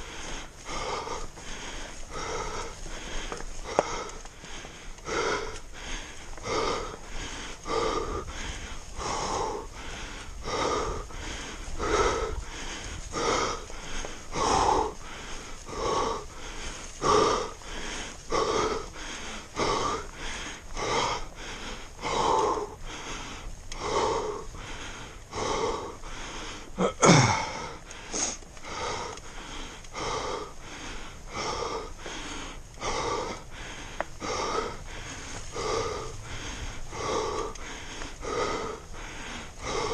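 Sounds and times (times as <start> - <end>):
person breathing heavily wheezing: 0.0 - 39.9.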